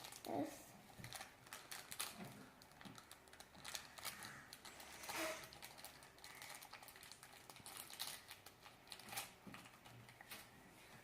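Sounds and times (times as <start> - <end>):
packaging rustle: 0.0 - 11.0
plastic packaging crinkling: 0.0 - 11.0.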